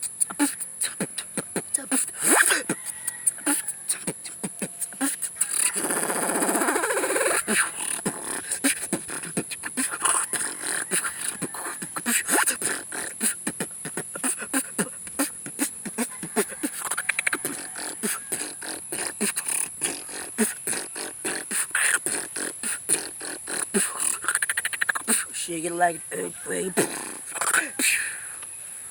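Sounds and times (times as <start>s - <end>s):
person beatboxing: 0.0s - 28.2s.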